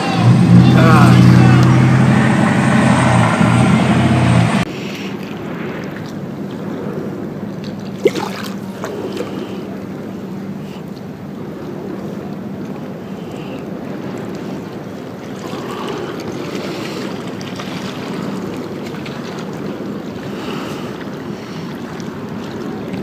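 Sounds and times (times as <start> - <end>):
low constant hum: 0.0 - 23.0
water noise: 0.0 - 23.0
wind buffeting microphone: 0.0 - 23.0.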